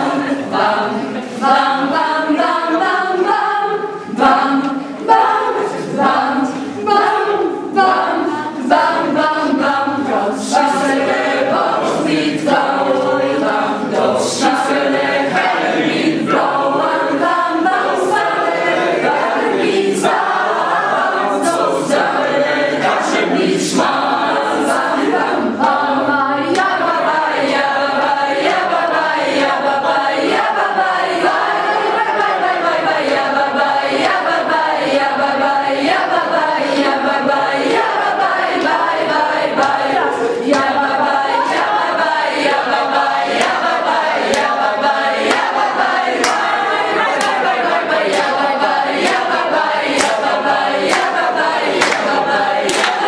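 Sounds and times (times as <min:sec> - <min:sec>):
group singing a cappella: 0:00.0 - 0:53.0.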